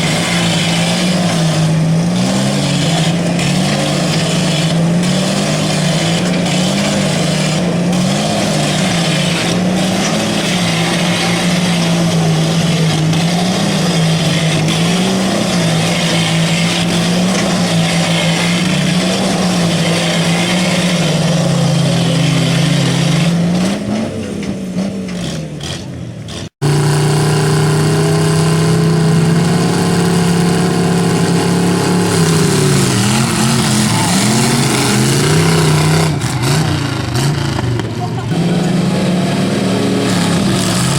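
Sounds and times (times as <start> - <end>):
truck engines revving under load: 0.0 - 40.9.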